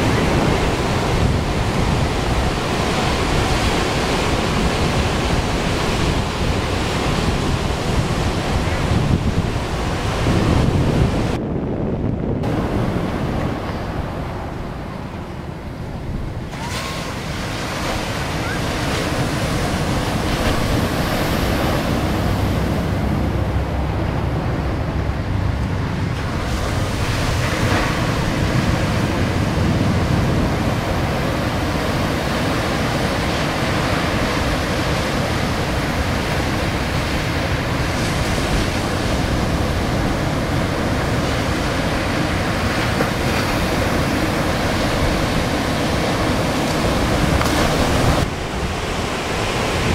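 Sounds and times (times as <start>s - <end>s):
ocean surf breaking: 0.0s - 49.9s
wind on microphone: 0.0s - 49.9s.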